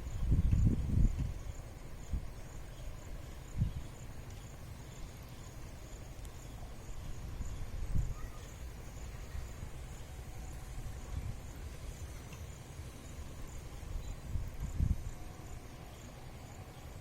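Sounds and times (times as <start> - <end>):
faint insect chirping: 0.0 - 17.0
low rumble of wind: 0.0 - 17.0.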